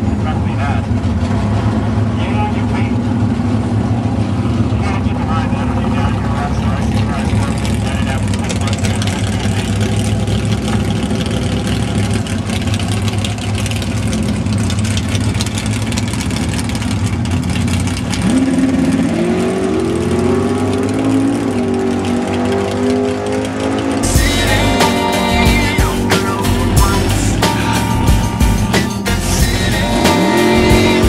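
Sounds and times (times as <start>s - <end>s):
drag car engines idling: 0.0s - 31.0s
drag cars launching and accelerating: 0.0s - 31.0s.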